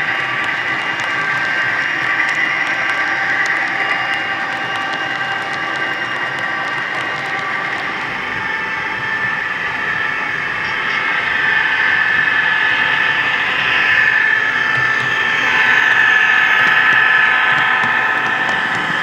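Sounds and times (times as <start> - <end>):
model train running: 0.0 - 19.0.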